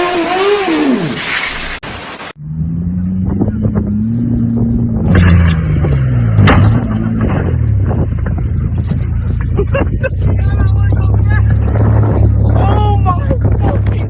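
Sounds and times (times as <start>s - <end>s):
car engine running: 2.5s - 14.0s.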